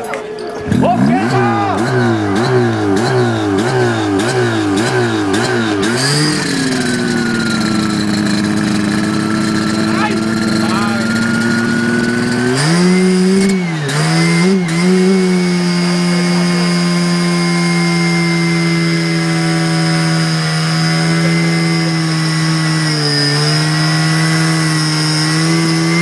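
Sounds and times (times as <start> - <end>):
pump engine revving: 0.6 - 26.0.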